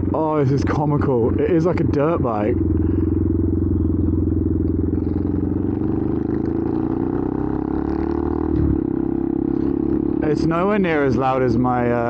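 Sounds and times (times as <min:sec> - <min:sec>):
raspy motorcycle engine running: 0:00.0 - 0:12.0.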